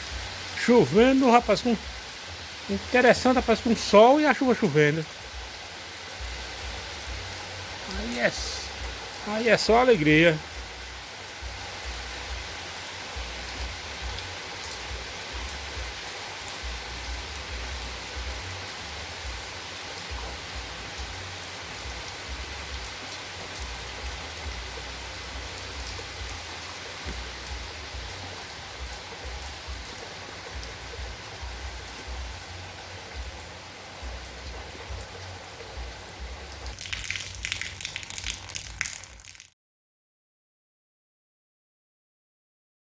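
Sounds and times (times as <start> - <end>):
steady rain falling: 0.0 - 39.6.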